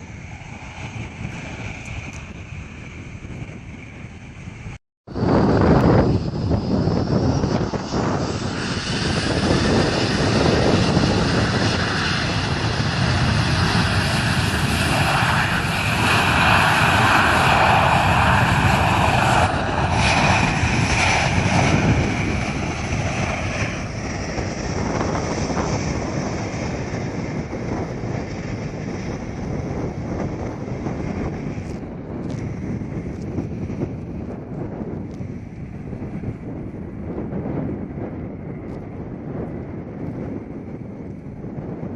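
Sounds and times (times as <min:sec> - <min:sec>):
jet airliner engines passing: 0:00.0 - 0:41.9.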